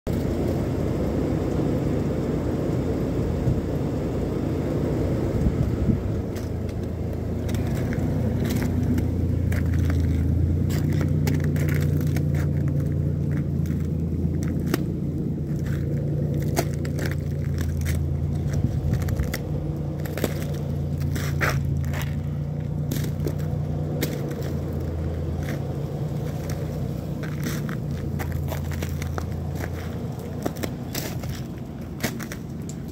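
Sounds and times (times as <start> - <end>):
steady low hum: 0.1 - 32.9
footsteps crunching through icy snow: 6.2 - 32.9.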